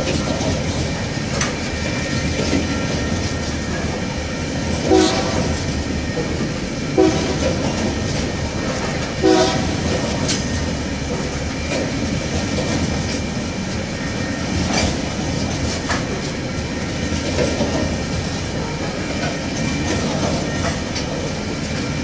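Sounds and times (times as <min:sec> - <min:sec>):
steel wheels rumbling on rail: 0:00.0 - 0:22.0.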